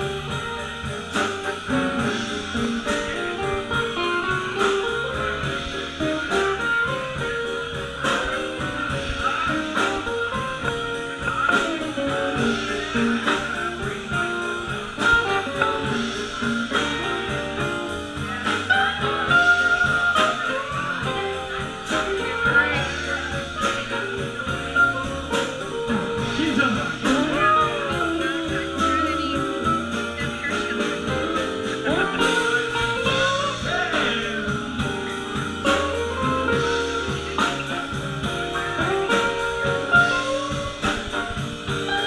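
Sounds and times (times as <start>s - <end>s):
blues band playing: 0.0s - 42.0s.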